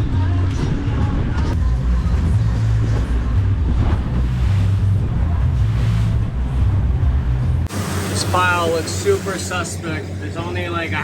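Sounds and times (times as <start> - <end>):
boat engines droning: 1.5 - 11.0.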